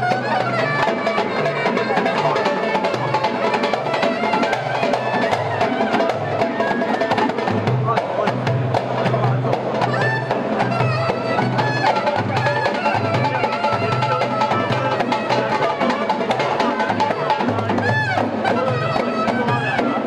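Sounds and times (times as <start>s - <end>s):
clarinet melody: 0.0s - 7.6s, 9.8s - 20.0s
hand drum rhythm: 0.0s - 20.0s.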